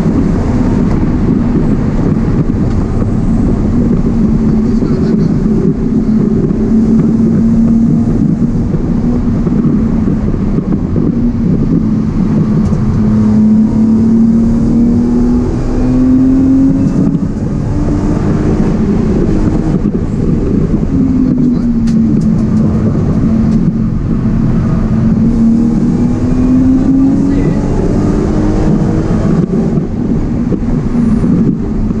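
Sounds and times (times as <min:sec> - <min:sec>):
car engine from inside cabin: 0:00.0 - 0:32.0
road and tyre noise: 0:00.0 - 0:32.0.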